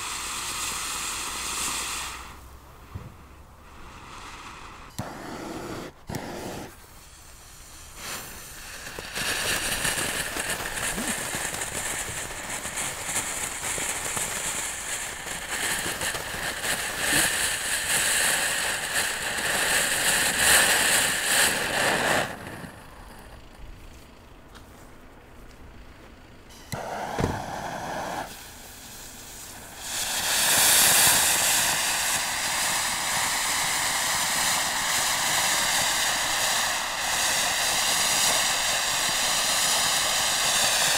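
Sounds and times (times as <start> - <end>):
faint hiss: 0.0 - 40.9
fountain firework hissing and crackling: 0.0 - 40.9.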